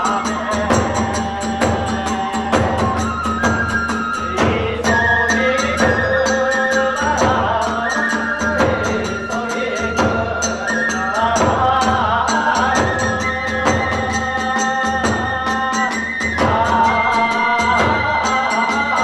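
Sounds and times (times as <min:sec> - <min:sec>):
drums: 0:00.0 - 0:19.0
high flute melody: 0:02.1 - 0:12.0, 0:12.6 - 0:19.0.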